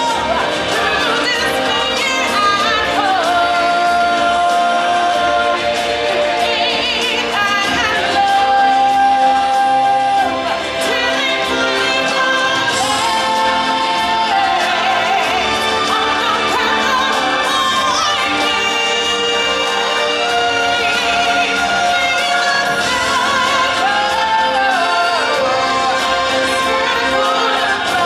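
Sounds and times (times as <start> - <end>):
musical backing: 0.0 - 28.0.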